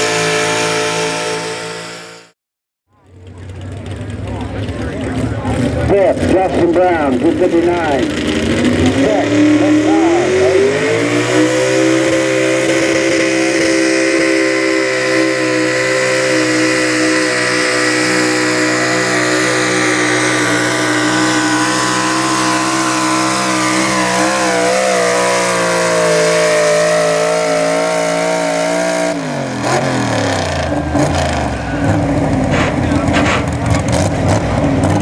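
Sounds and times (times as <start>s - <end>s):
truck engine at high revs: 0.0s - 35.0s.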